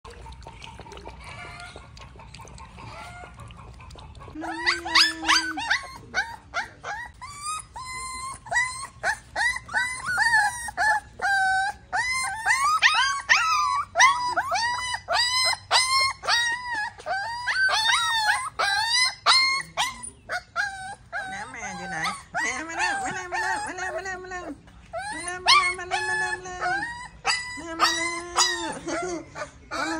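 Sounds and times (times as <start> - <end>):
puppies whining and yelping: 0.1 - 29.9.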